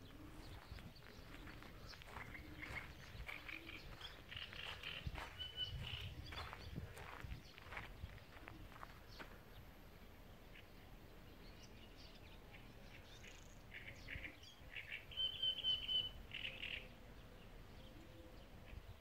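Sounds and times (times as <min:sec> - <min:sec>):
birds chirping and calling: 0:00.0 - 0:09.7, 0:10.3 - 0:19.0
faint outdoor hush: 0:00.0 - 0:15.2.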